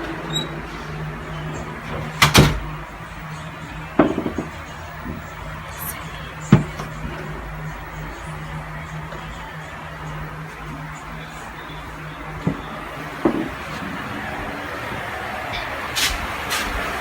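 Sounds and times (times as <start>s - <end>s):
steady low hum: 0.7s - 15.7s.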